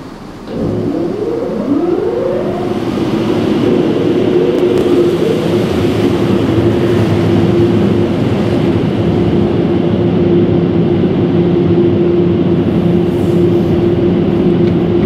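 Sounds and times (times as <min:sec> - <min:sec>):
car wash equipment drone: 0:00.0 - 0:15.0.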